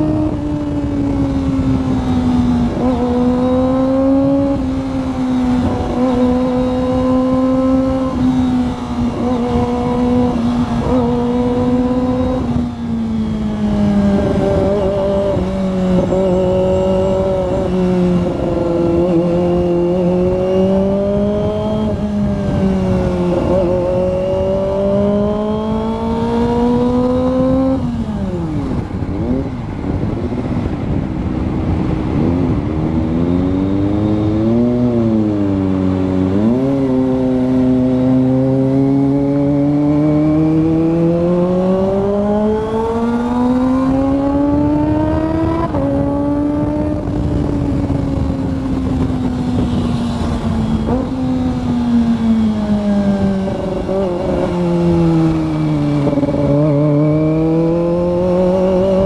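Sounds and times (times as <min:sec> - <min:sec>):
motorcycle engine revving: 0:00.0 - 0:59.0
wind on helmet microphone: 0:00.0 - 0:59.0.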